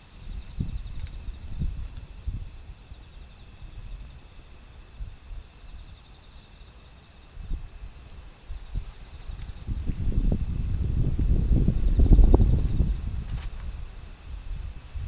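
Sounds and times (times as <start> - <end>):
gusty wind buffeting microphone: 0.0 - 6.0, 7.3 - 15.0
faint insect trill: 0.0 - 15.0.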